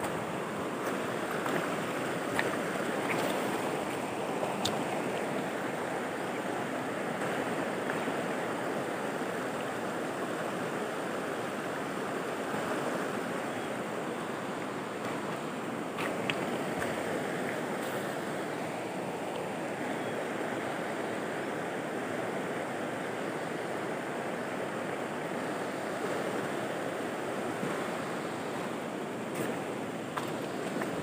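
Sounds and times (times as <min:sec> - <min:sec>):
river rushing over stones: 0:00.0 - 0:31.0.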